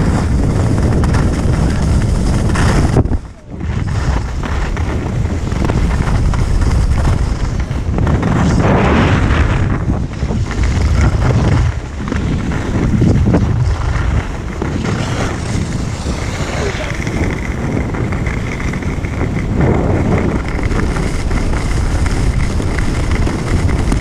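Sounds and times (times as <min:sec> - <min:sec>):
skis scraping on snow: 0:00.0 - 0:24.0
wind buffeting microphone: 0:00.0 - 0:24.0.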